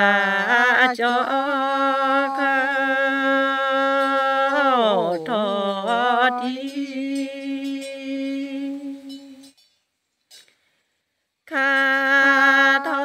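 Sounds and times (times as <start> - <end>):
person chanting: 0.0 - 9.4, 11.5 - 13.0.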